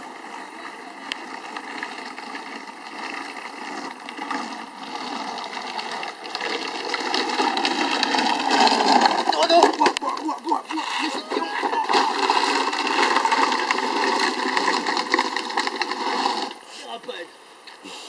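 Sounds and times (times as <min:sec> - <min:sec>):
plastic wheels rolling on asphalt: 0:00.0 - 0:18.0.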